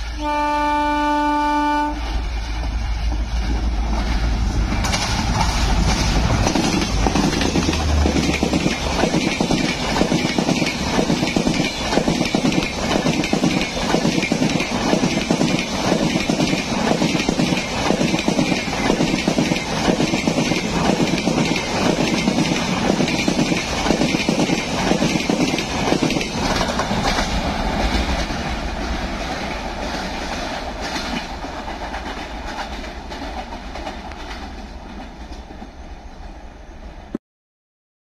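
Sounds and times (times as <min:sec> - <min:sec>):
train wheels clattering on track: 0:02.1 - 0:35.8.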